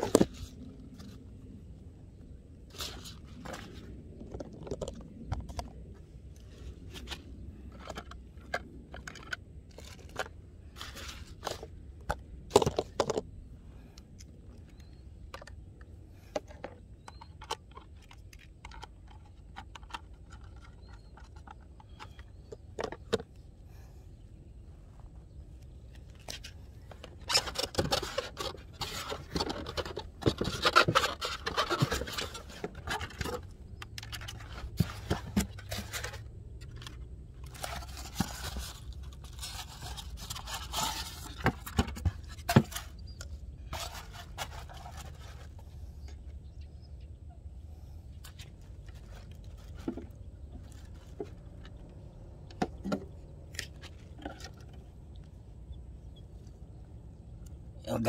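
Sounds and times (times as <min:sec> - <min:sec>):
plastic parts scraping and clicking: 0:00.0 - 0:01.3, 0:02.7 - 0:23.5, 0:25.6 - 0:46.4, 0:48.1 - 0:55.4.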